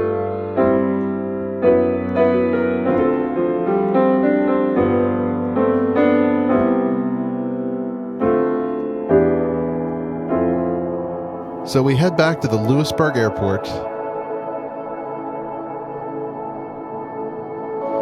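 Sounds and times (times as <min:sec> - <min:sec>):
grand piano chords: 0:00.0 - 0:18.0.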